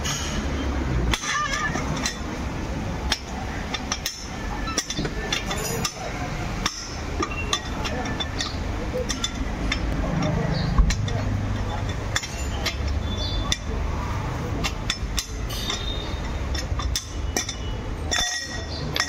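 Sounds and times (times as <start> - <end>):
socket clinking on wheel nuts: 1.1 - 13.8, 14.4 - 19.0.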